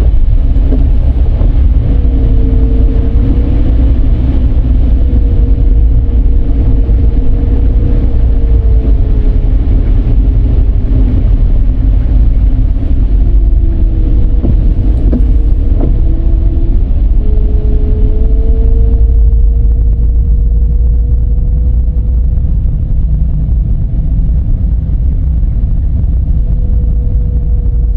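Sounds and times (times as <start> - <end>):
faint shifting tone: 0.0 - 22.7
road and engine rumble: 0.0 - 27.9.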